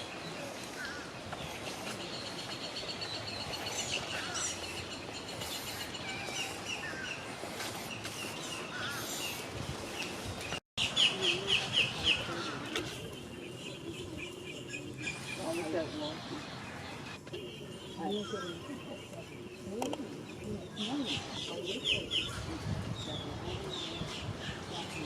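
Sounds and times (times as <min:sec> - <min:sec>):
birds calling and chirping: 0:00.0 - 0:25.0.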